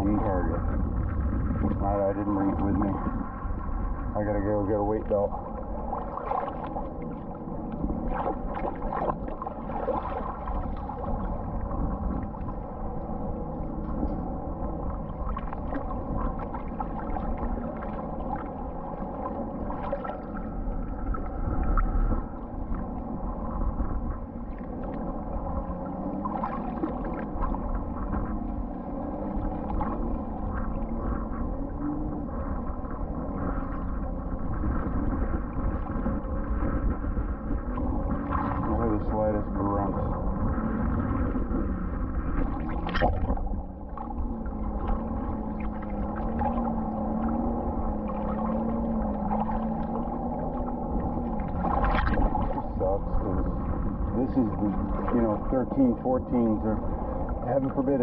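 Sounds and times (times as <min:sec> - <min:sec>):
muffled water sloshing and gurgling: 0:00.0 - 0:58.0
slow warbling glides: 0:00.0 - 0:58.0
steady multi-tone hum: 0:00.0 - 0:58.0.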